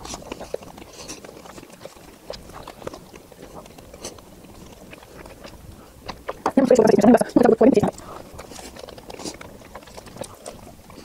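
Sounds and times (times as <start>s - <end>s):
person chewing food: 0.0s - 11.0s
wet mouth clicks: 0.0s - 11.0s.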